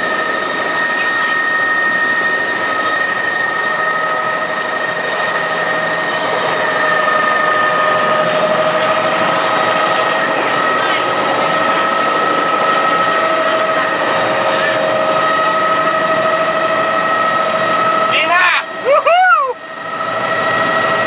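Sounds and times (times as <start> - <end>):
helicopter engine and rotor noise: 0.0 - 21.0.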